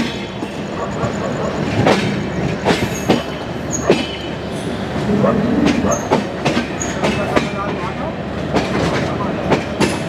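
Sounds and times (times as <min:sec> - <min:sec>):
train coaches rumbling on rails: 0:00.0 - 0:10.0
wheels clacking over rail joints: 0:00.0 - 0:10.0.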